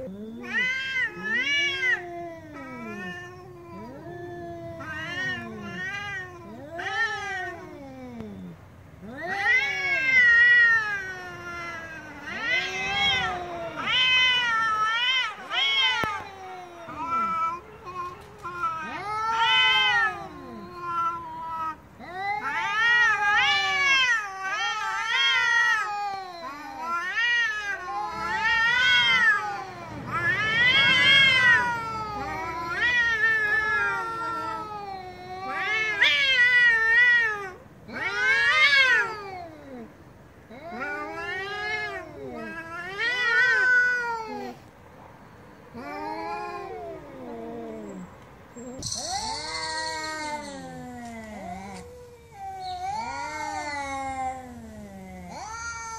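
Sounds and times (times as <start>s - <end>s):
cats yowling: 0.0s - 44.8s, 45.5s - 55.9s.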